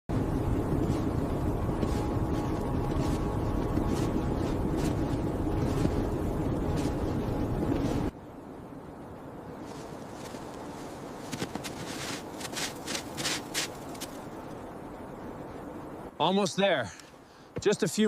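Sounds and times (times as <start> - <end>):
strong blizzard wind: 0.1 - 18.0.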